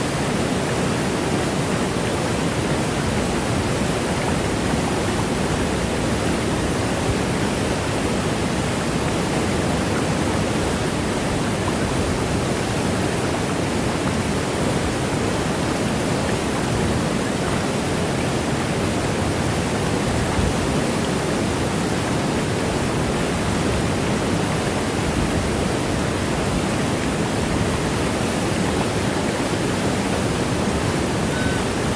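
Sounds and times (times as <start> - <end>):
small waterfall splashing: 0.0 - 31.9.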